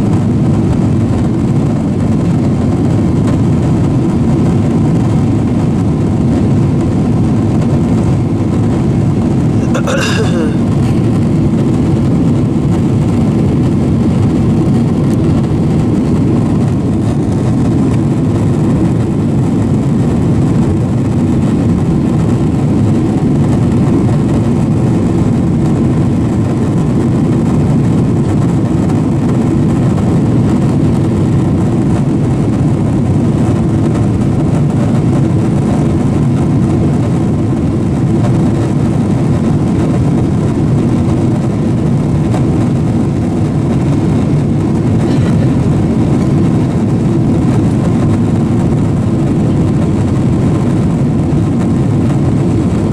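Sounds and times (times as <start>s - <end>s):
airplane cabin jet engine roar: 0.0s - 52.9s.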